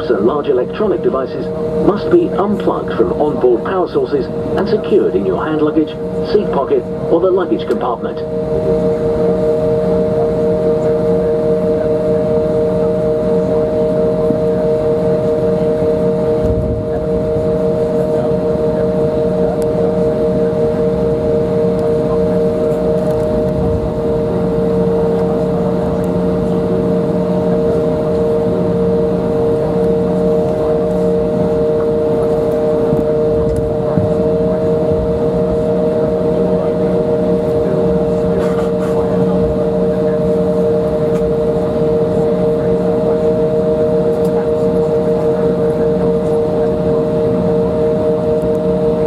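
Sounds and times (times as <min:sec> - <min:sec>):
jet engine rumble in cabin: 0:00.0 - 0:49.0
steady whining tones: 0:00.0 - 0:49.0.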